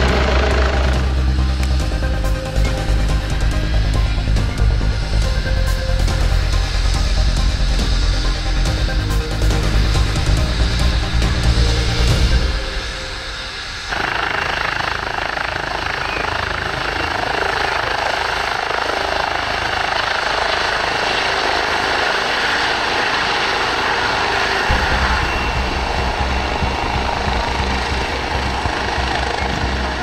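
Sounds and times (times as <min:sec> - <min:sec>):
helicopter rotor noise: 0:00.0 - 0:30.0.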